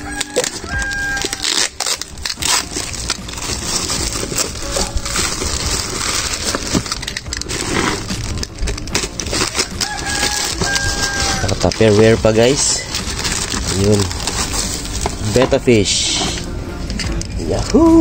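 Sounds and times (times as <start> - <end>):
plastic film crinkling: 0.0 - 16.5.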